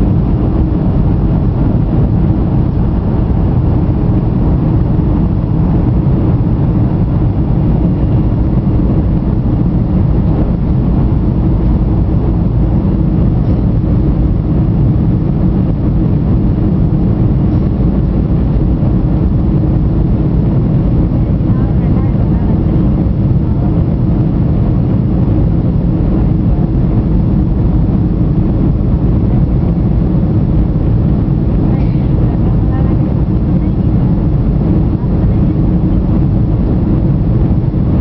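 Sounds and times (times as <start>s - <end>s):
jet engine cabin rumble: 0.0s - 38.0s.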